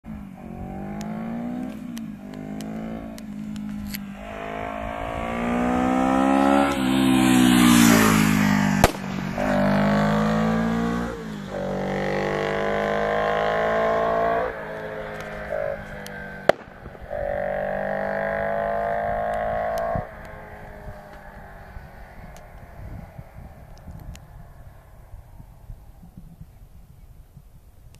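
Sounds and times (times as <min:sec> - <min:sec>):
motorcycle engine shifting gears: 0:00.1 - 0:26.4.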